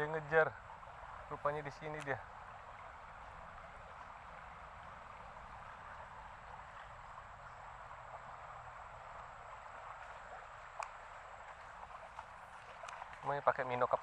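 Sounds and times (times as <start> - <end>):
running floodwater rushing: 0.0 - 14.0.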